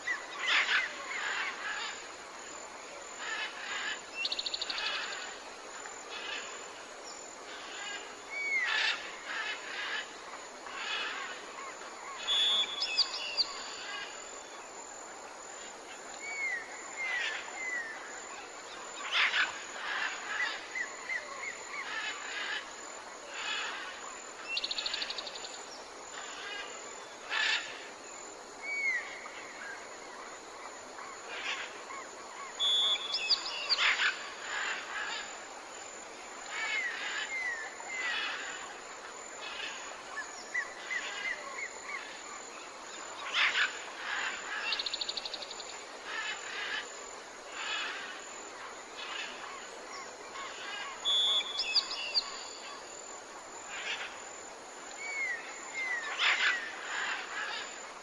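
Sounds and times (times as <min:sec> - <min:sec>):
soft outdoor hiss: 0:00.0 - 0:58.0.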